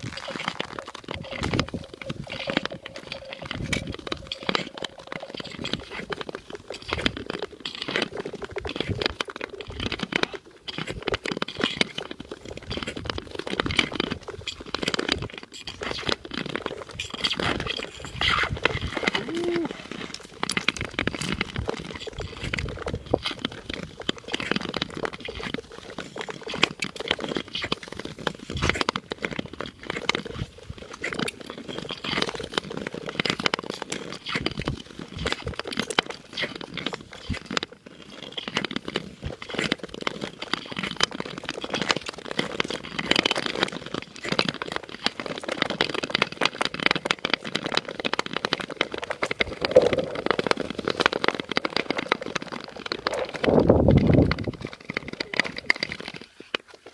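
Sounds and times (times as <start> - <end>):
ice crackling: 0.0 - 56.9
skates scraping on ice: 0.0 - 56.9.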